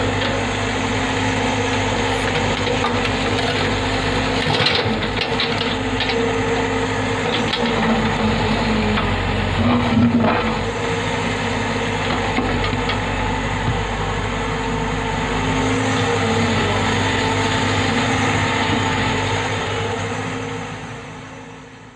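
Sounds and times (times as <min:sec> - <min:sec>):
excavator diesel engine: 0:00.0 - 0:21.9.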